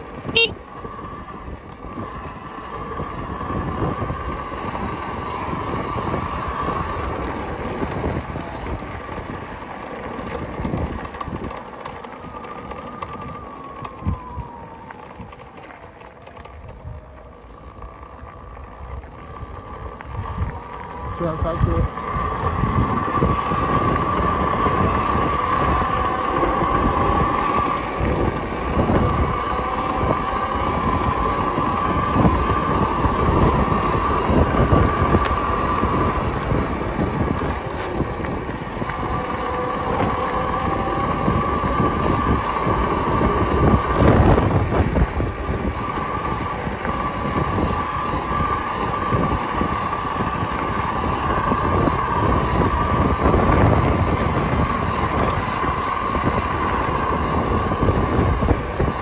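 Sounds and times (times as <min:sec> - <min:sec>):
electric motor whine: 0:00.0 - 0:59.0
tyres rumbling on gravel: 0:00.0 - 0:59.0.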